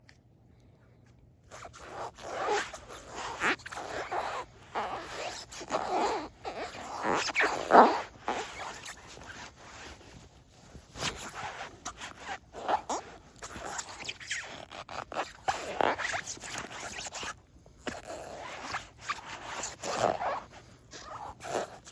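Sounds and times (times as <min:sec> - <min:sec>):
rubber boots squeaking: 0:01.5 - 0:21.9.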